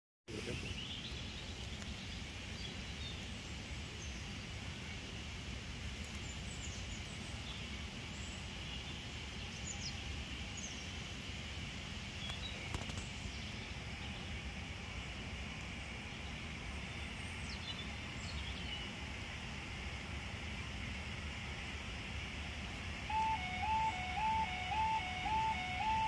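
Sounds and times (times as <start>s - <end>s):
low outdoor rumble: 0.3s - 26.0s.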